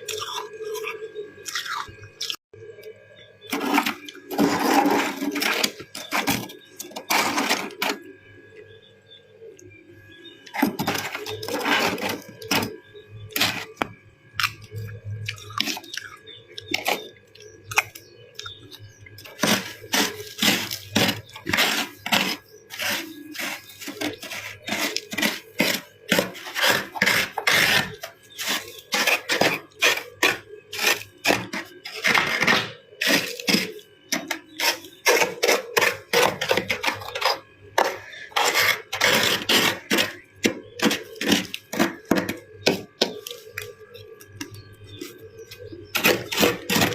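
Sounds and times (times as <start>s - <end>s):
ice crunching while chewed: 0.0s - 2.4s, 3.4s - 8.1s, 10.4s - 46.9s.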